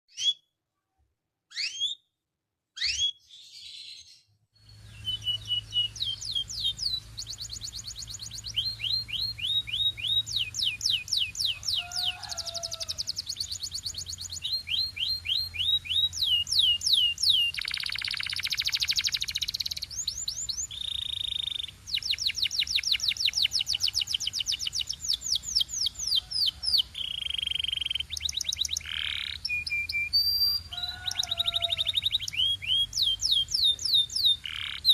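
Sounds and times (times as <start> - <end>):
canary singing trills: 1.5 - 2.0, 2.8 - 34.9.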